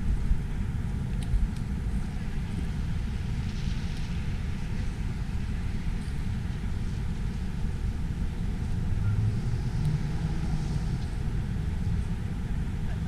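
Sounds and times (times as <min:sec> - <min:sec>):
city traffic: 0:00.0 - 0:13.0
vehicle engine hum: 0:00.0 - 0:13.0.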